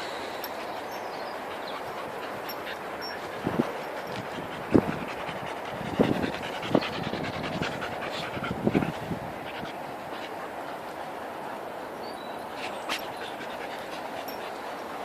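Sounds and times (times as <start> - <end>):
dog panting: 0.0 - 11.6, 12.5 - 15.0.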